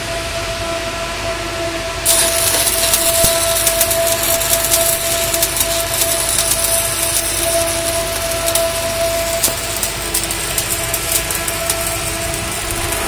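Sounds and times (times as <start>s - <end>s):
steady high whine: 0.0s - 13.0s
welding arc crackling: 2.0s - 13.0s.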